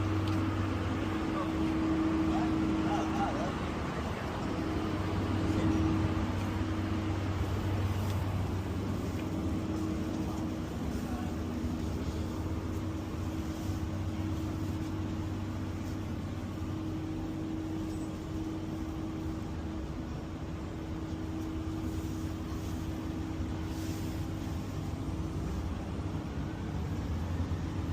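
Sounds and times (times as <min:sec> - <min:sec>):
constant mechanical hum: 0:00.0 - 0:27.9
street background noise: 0:00.0 - 0:27.9.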